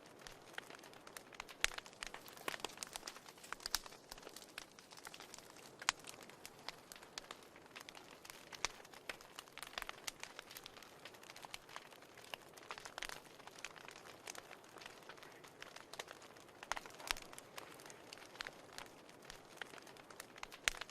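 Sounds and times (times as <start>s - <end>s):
faint fire hiss: 0.0s - 20.9s
sharp fire pops and snaps: 0.0s - 20.9s
wood fire crackling: 0.0s - 20.9s.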